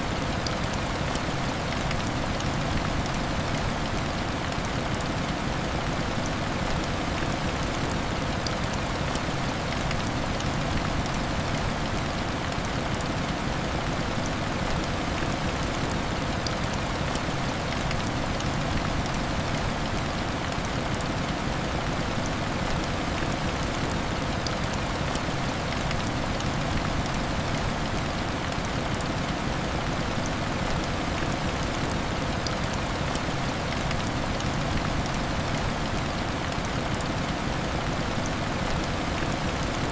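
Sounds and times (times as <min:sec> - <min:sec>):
heavy rain on window glass: 0:00.1 - 0:39.9
raindrop ticks: 0:00.1 - 0:39.9.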